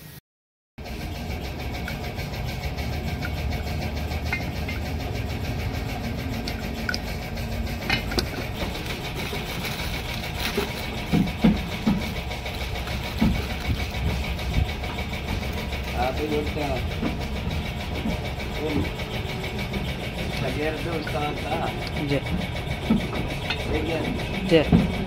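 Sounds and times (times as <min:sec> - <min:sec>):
engine droning steadily: 0:00.8 - 0:25.0.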